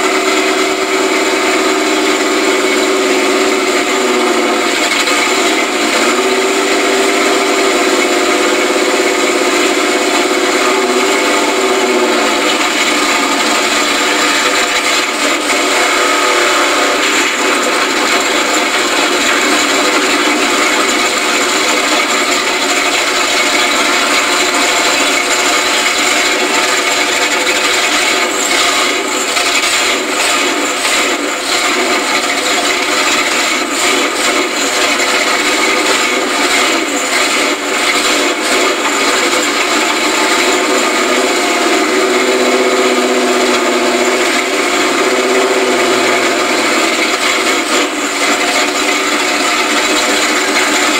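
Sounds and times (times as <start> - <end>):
knocks and rattles: 0.0 - 50.9
truck engine running: 0.0 - 50.9.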